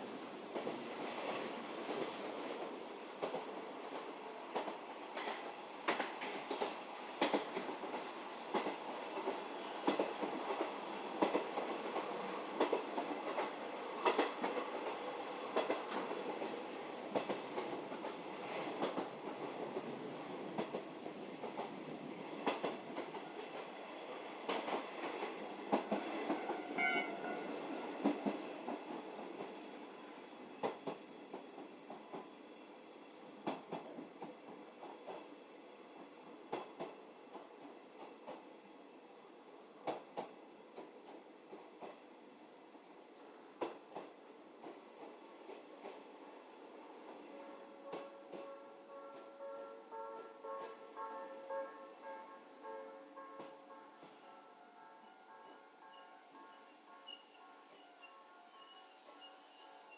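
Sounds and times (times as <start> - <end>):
train wheels rumbling on rail: 0.0 - 32.4, 33.3 - 38.5, 39.8 - 42.1, 43.2 - 54.4.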